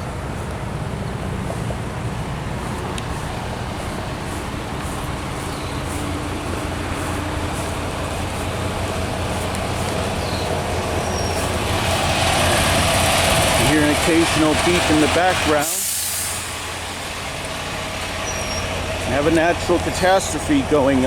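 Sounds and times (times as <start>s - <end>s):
rumble of road traffic: 0.0s - 21.0s.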